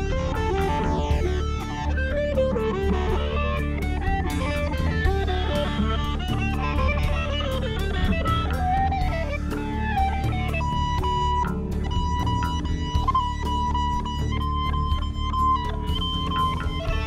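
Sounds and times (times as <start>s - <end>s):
bass: 0.0s - 17.0s
drums: 0.0s - 17.0s
electric guitar lead line: 0.0s - 17.0s.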